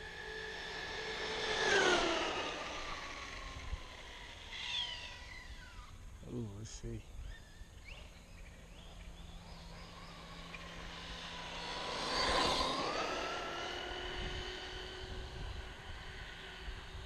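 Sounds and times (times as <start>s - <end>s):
rc truck electric motor whine: 0.0s - 6.2s, 7.3s - 17.0s.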